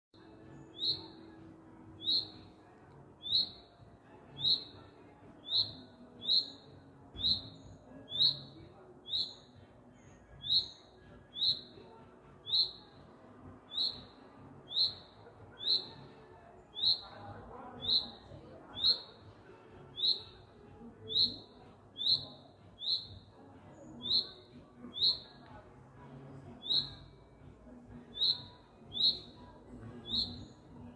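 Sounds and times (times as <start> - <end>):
songbird chirping: 0.2 - 30.9.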